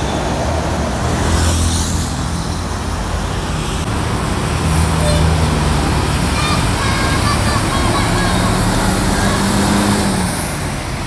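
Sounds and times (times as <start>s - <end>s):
bus diesel engines rumbling: 0.0s - 11.0s.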